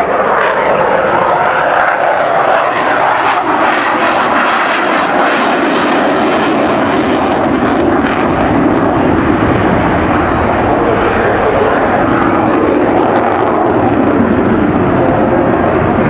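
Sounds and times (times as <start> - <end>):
airplane engine: 0.0 - 16.0.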